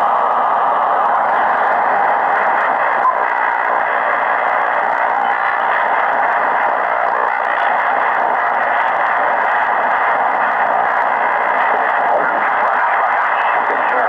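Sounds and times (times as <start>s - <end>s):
radio static rushing: 0.0s - 14.0s.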